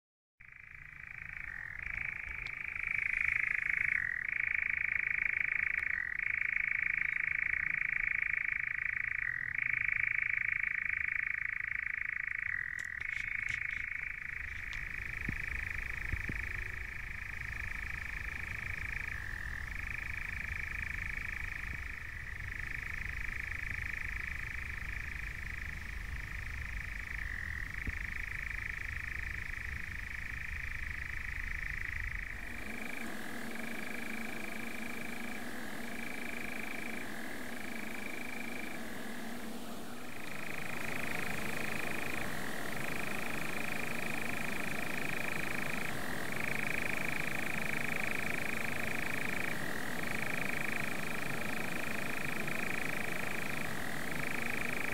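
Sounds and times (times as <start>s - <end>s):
nightjar churring trill: 0.4s - 54.9s.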